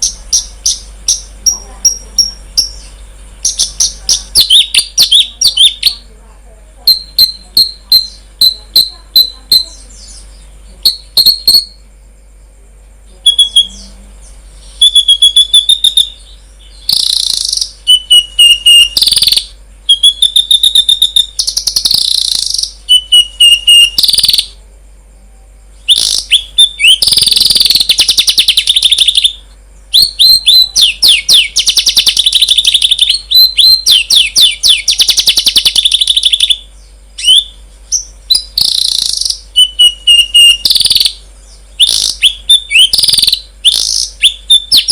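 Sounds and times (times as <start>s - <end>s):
songbird trills and chirps: 0.0s - 44.9s.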